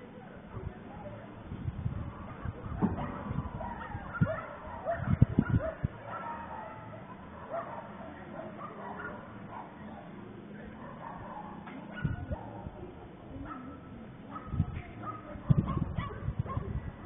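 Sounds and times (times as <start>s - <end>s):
dogs yipping and barking: 2.0s - 12.7s, 13.4s - 17.0s.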